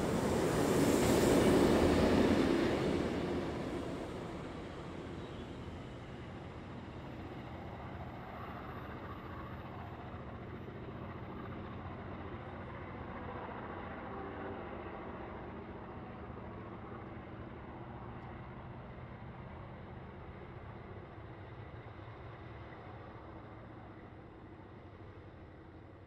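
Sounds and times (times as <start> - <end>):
diesel locomotive engines droning: 0.0 - 26.0.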